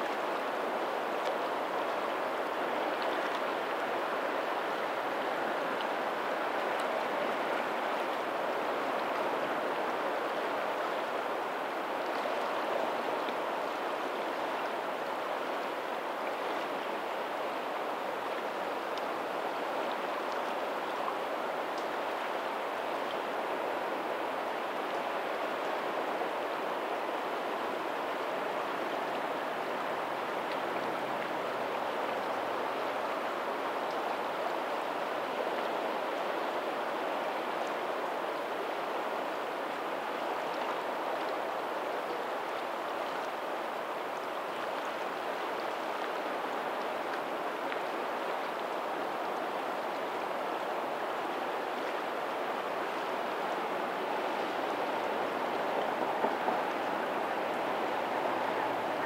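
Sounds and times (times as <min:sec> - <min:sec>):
faint ocean surf: 0:00.0 - 0:59.0
water rushing along pebbly shore: 0:00.0 - 0:59.0.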